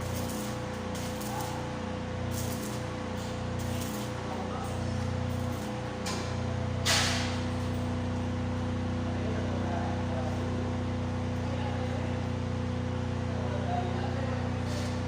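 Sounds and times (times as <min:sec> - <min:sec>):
welding machine humming and hissing: 0:00.0 - 0:15.0.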